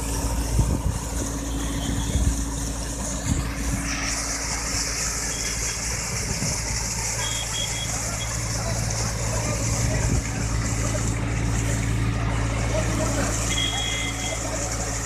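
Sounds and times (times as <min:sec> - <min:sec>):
tractor diesel engine running: 0:00.0 - 0:15.0
water gushing and splashing: 0:00.0 - 0:15.0.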